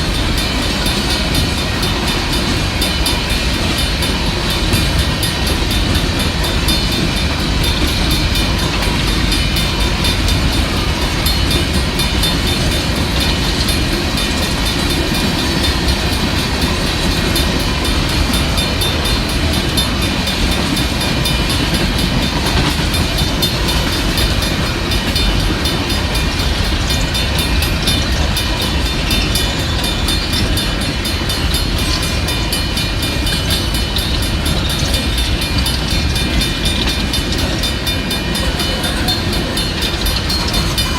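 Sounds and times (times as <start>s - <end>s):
wheels rumbling on track: 0.0s - 40.9s.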